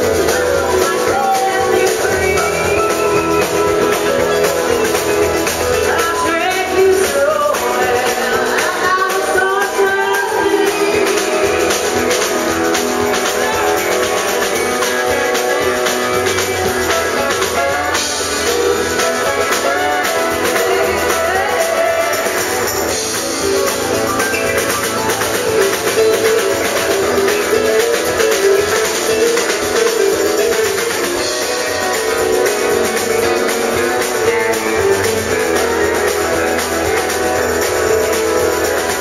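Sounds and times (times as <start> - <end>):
live country band playing: 0.0 - 39.0.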